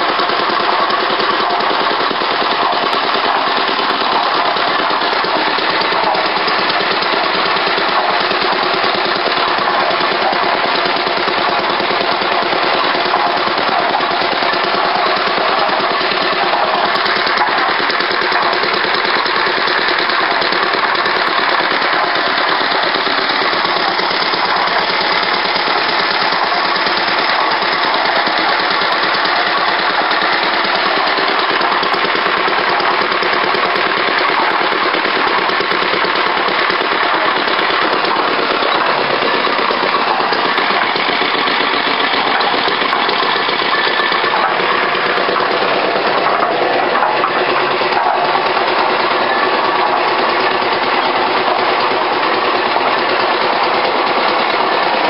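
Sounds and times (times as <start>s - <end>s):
concrete mixer engine running: 0.0s - 55.0s.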